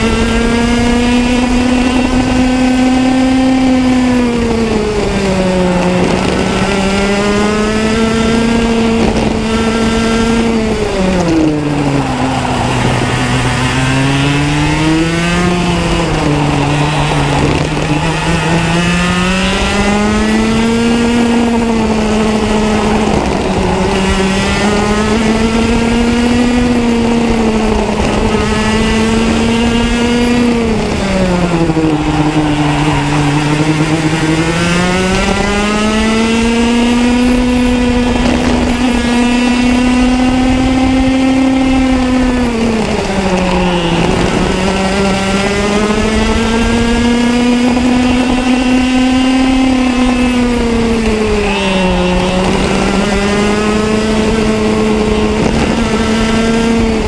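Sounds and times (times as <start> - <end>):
racing kart engine: 0.0 - 57.0.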